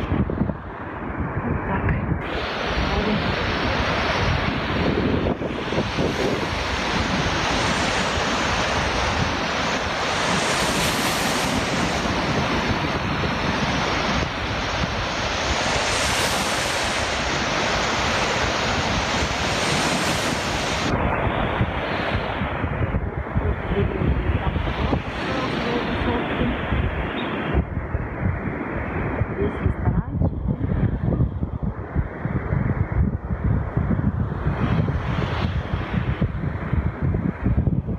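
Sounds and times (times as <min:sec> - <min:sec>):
strong wind buffeting microphone: 0:00.0 - 0:37.9
waves washing onto beach: 0:00.0 - 0:37.9.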